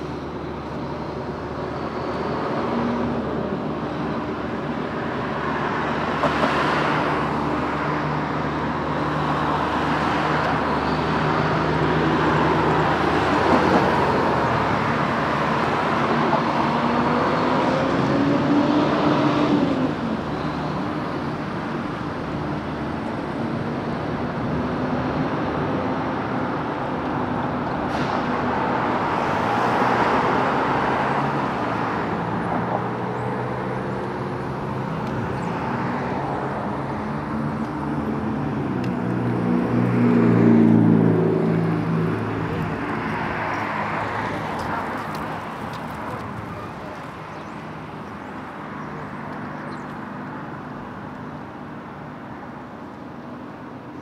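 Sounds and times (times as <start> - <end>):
street traffic passing: 0.0 - 54.0.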